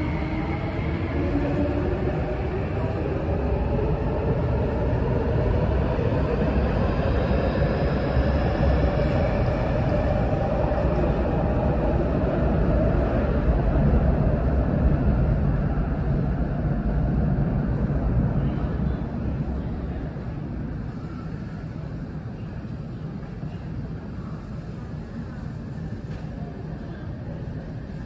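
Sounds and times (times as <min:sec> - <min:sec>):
faint train whine: 0:00.0 - 0:28.0
train wheels rumbling on rail: 0:00.0 - 0:28.0.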